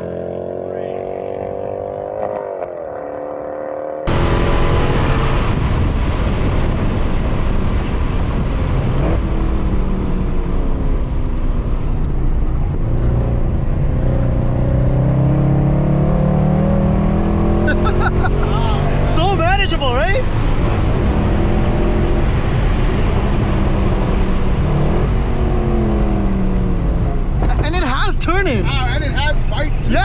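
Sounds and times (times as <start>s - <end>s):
car engine at full throttle: 0.0s - 30.0s.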